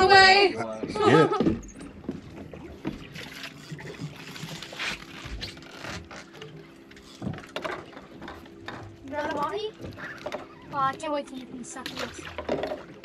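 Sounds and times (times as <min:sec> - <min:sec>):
steady mechanical hum: 0:00.0 - 0:13.0
water splashing around boat: 0:00.0 - 0:13.0.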